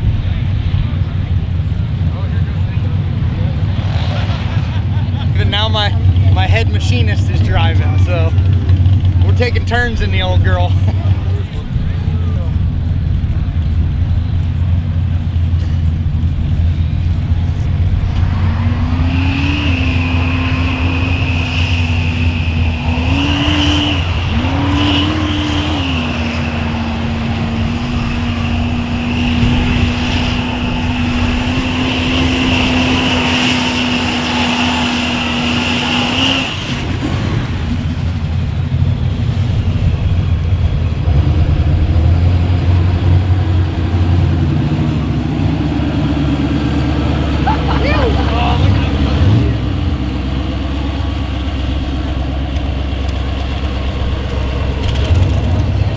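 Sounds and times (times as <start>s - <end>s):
diesel truck engine revving: 0.0s - 55.9s.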